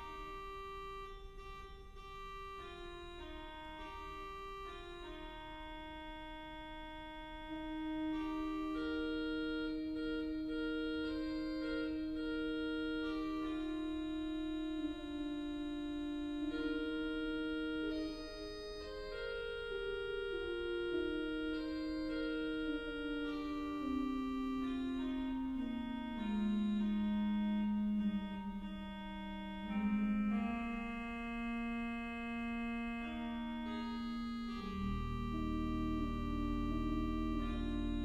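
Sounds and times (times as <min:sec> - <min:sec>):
organ sustained chords: 0:00.0 - 0:38.0.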